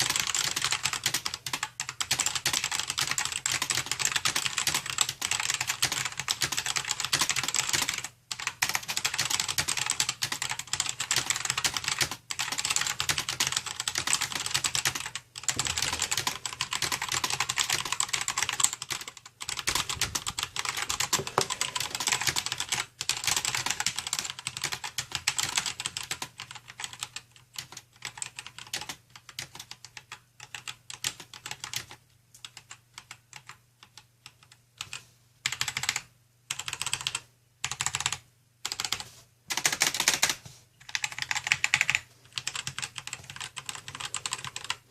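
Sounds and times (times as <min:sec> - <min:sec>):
fast typing on mechanical keyboard: 0:00.0 - 0:44.9.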